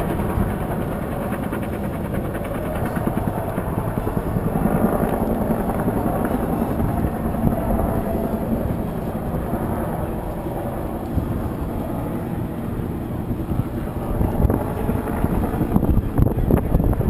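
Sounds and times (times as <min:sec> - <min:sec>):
helicopter rotor and turbine noise: 0:00.0 - 0:17.0.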